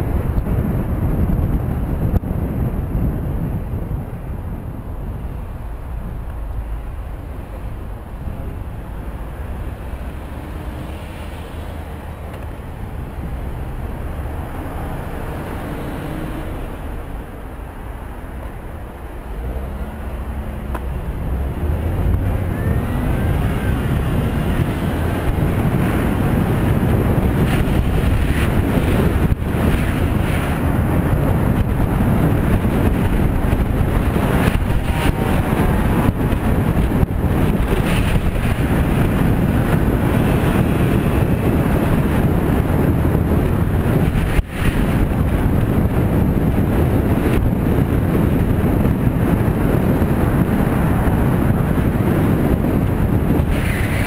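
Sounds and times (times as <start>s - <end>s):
car traffic: 0.0s - 54.0s
wind rushing over microphone: 0.0s - 54.0s.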